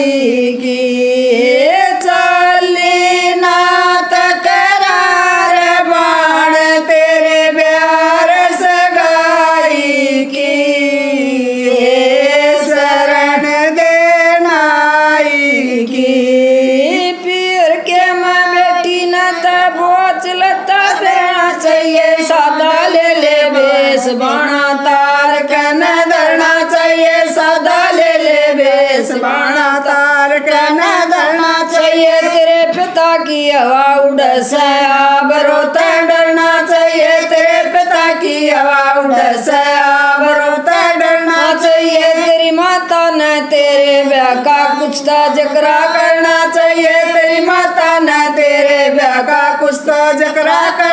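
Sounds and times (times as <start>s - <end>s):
women singing folk song: 0.0s - 50.9s.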